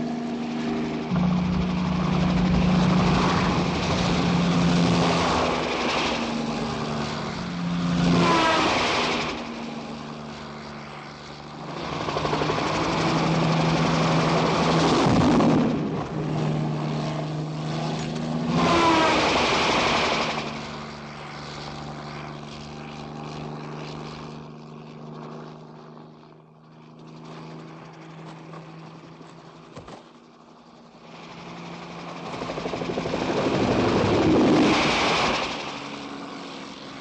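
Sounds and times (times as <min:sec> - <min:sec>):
helicopter flying low: 0:00.0 - 0:37.0.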